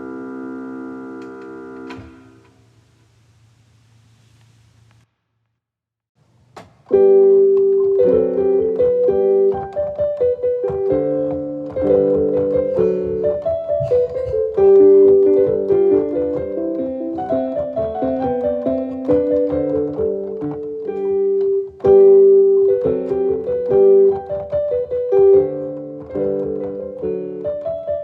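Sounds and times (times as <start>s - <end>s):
piano music: 0.0s - 2.4s, 6.9s - 28.0s.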